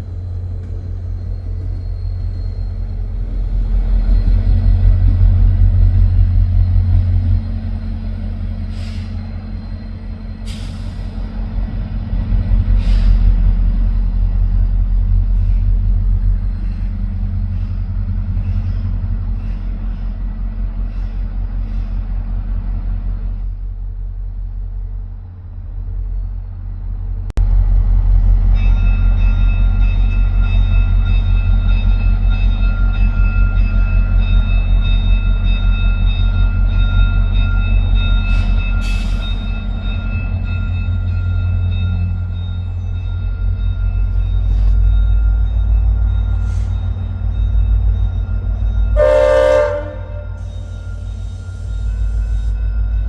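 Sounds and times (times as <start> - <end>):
diesel locomotive engine rumbling: 0.0 - 53.0.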